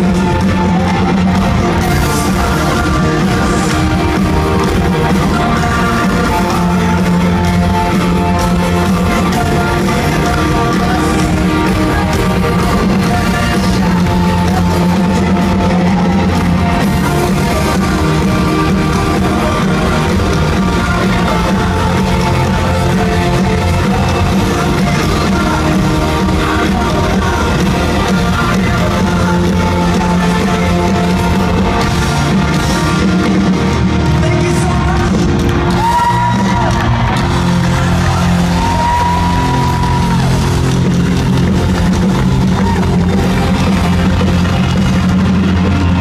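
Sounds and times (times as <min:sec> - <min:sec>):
person singing: 0:00.0 - 0:40.6
live rock band playing: 0:00.0 - 0:46.0.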